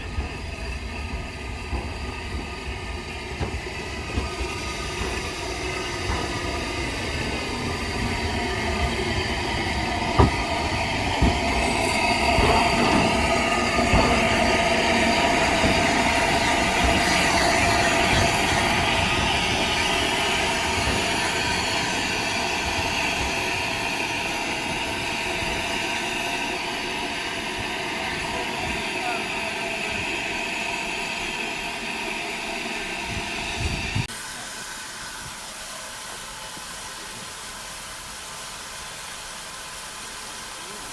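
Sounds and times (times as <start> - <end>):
train wheels rumbling on rails: 0.0 - 34.2.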